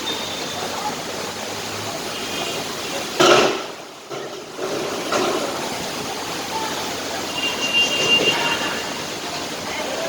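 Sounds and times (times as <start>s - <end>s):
heavy rain: 0.0s - 10.0s
wind: 0.0s - 10.0s.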